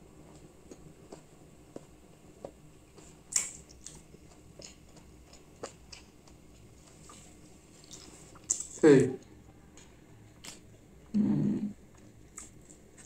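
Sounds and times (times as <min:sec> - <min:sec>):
person chewing and mouth noises: 0:00.3 - 0:08.8, 0:10.4 - 0:13.0.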